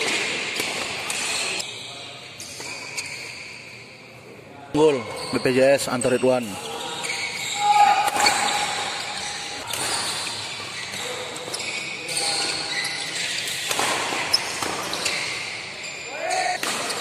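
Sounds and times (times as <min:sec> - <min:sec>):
shoes squeaking on court floor: 0:00.0 - 0:04.0, 0:04.8 - 0:17.0.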